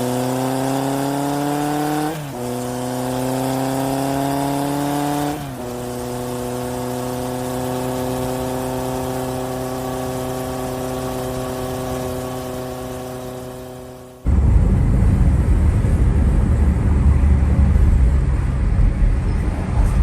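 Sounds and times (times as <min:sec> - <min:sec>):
engine hum: 0:00.0 - 0:20.0.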